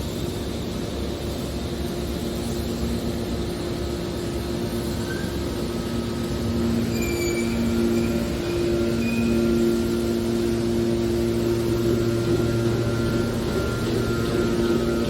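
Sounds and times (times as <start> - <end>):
two-tone motor hum: 0.0 - 15.0
hydraulic baler drone: 2.8 - 15.0.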